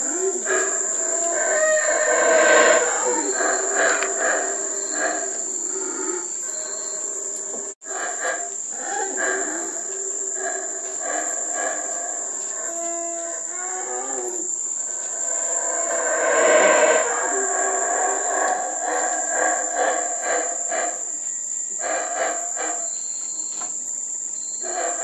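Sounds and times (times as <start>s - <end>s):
howler monkeys roaring: 0.0s - 23.0s, 24.6s - 25.0s
insects droning: 0.0s - 25.0s.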